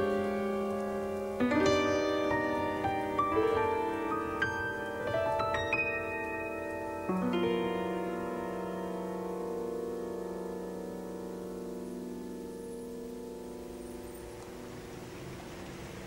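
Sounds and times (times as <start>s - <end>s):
piano chord ringing: 0.0s - 16.0s.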